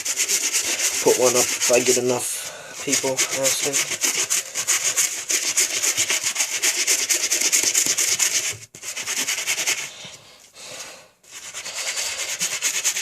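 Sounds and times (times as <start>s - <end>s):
toothbrush scrubbing sneaker sole: 0.0s - 9.9s, 11.3s - 13.0s.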